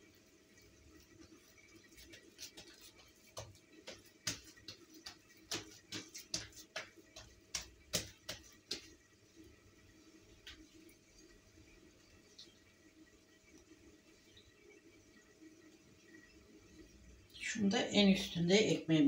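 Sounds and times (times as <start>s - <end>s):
hands working dough on a tabletop: 0.0s - 17.3s.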